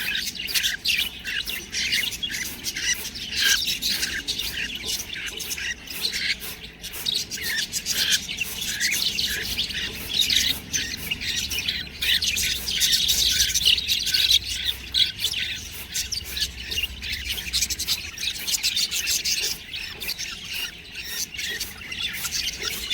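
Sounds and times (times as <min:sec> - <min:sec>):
budgerigars chattering: 0:00.0 - 0:22.9.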